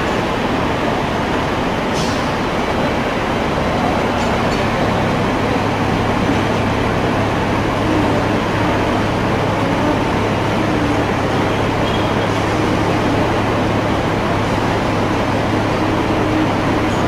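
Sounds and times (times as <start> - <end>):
trams and street traffic rumble: 0.0 - 17.0.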